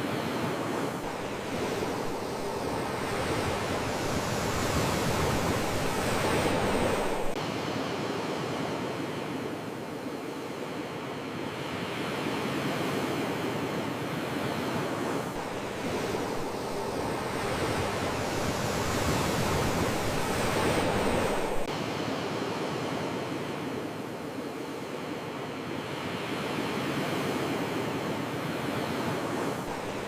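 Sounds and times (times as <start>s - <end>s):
sea waves rushing surf: 0.0s - 30.0s.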